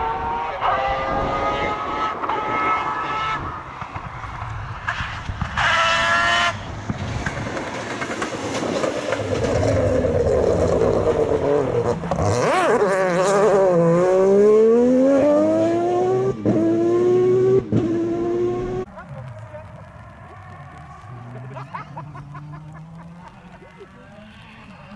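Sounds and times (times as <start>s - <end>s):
rally car engine passing: 0.0s - 24.9s.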